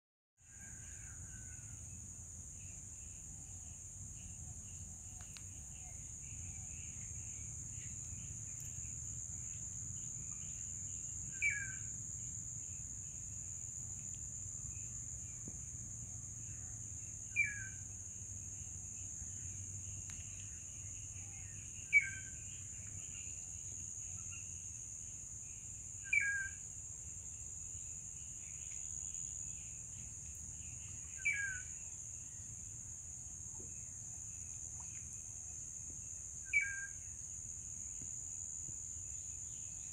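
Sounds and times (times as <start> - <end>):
high-pitched insect chorus: 0.4 - 39.9.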